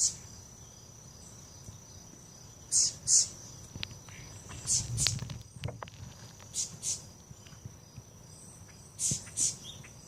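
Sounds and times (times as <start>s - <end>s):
birds scolding calls: 0.0s - 10.0s
high insect-like drone: 0.0s - 10.0s.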